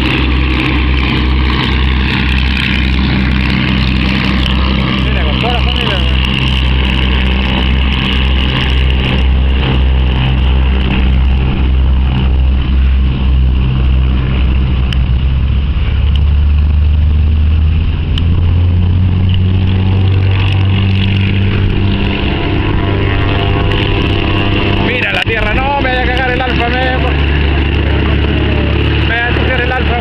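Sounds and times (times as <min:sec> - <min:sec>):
piston aircraft engines throbbing: 0:00.0 - 0:30.0.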